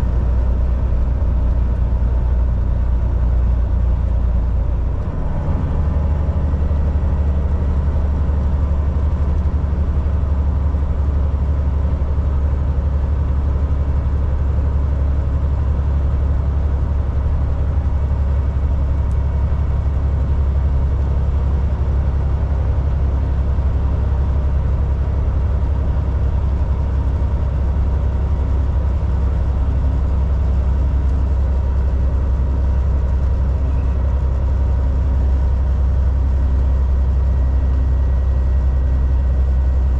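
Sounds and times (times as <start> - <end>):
diesel truck engine hum: 0.0 - 39.9
road noise: 0.0 - 39.9.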